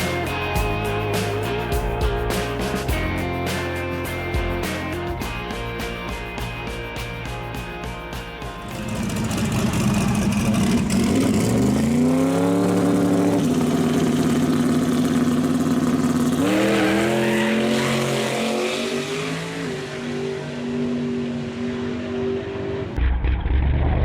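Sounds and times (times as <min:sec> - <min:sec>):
drag racing car engine: 0:00.0 - 0:24.0.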